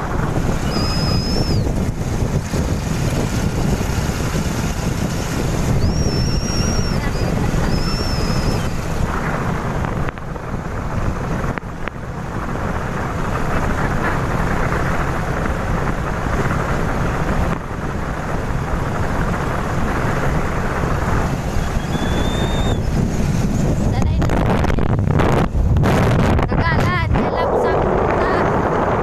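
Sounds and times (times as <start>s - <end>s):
low rumble: 0.0s - 29.0s
wind rushing over microphone: 0.0s - 29.0s.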